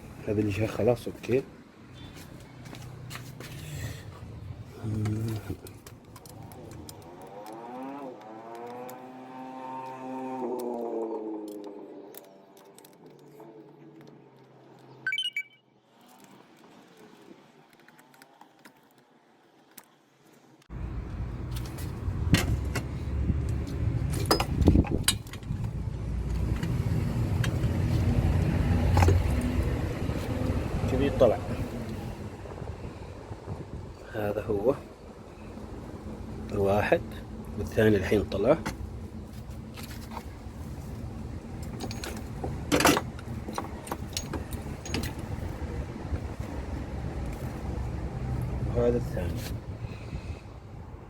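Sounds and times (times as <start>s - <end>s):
engine parts clicking and knocking: 2.0s - 15.0s, 16.1s - 32.8s, 33.4s - 49.8s.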